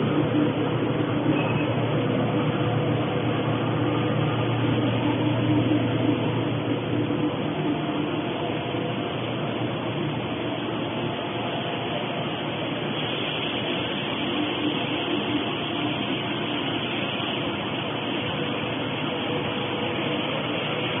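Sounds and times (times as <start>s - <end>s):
faint steady hums: 0.0s - 21.0s
industrial machine running: 0.0s - 21.0s.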